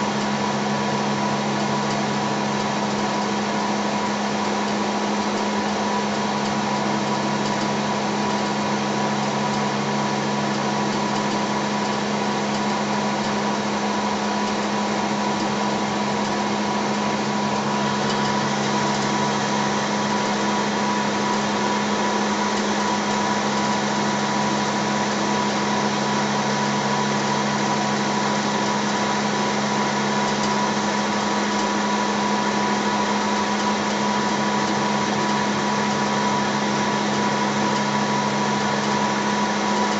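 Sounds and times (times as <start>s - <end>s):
small machine humming: 0.0s - 39.9s.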